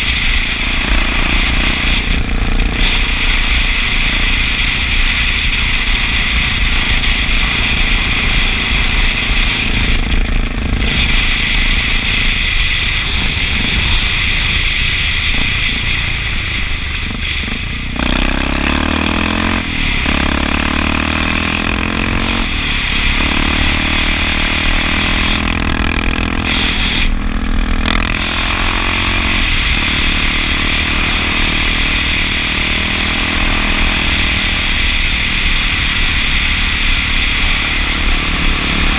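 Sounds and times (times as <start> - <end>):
motorcycle engine running: 0.0 - 38.9
wind rush on camera: 0.0 - 38.9.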